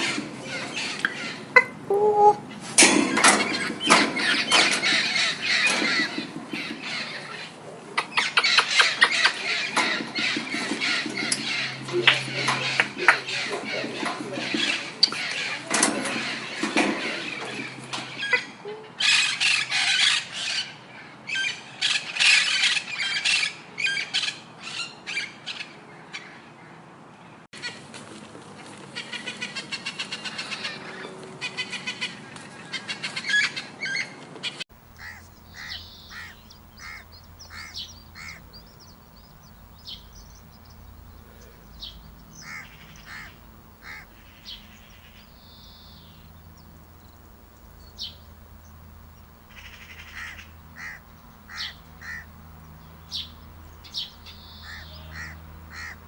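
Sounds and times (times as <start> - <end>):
bird calls: 0.0 - 20.7, 29.0 - 56.0.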